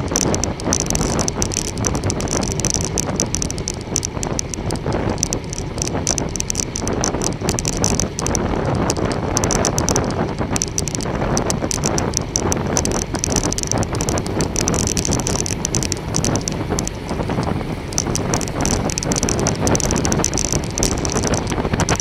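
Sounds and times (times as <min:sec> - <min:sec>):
bicycle ticking and rattling: 0:00.0 - 0:22.0
bicycle tyre noise: 0:00.0 - 0:22.0
wind rushing over microphone: 0:00.0 - 0:22.0.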